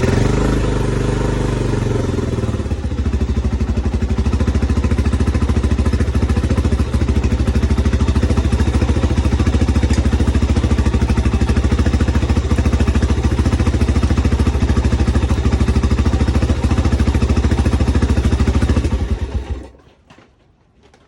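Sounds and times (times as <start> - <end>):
four-stroke engine running: 0.0 - 19.8.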